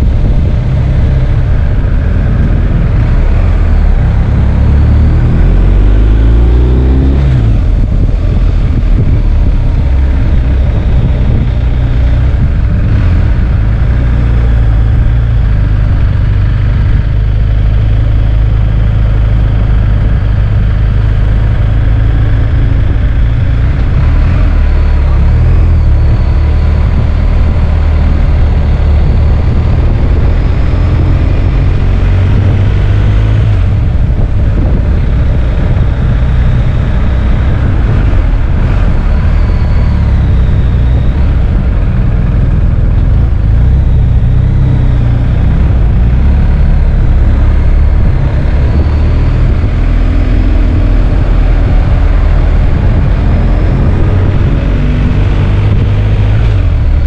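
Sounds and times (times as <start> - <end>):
motorcycle engine rumble: 0.0 - 57.0.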